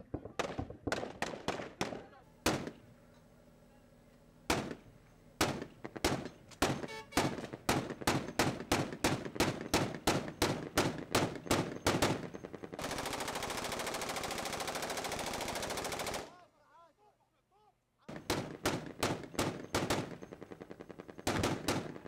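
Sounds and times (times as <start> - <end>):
gunshots: 0.0 - 2.8, 4.5 - 16.4, 18.1 - 22.0
rapid automatic gunfire: 0.0 - 2.8, 4.5 - 4.8, 5.4 - 16.4, 18.1 - 22.0.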